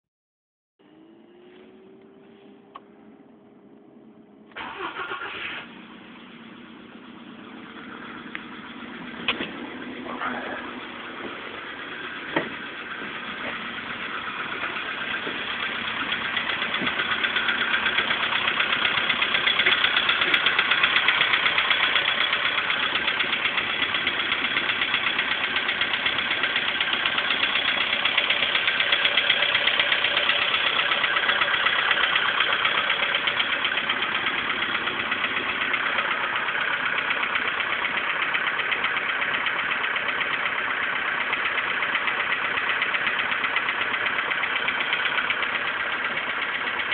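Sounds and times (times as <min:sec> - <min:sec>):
car engine knocking: 0:06.0 - 0:46.9.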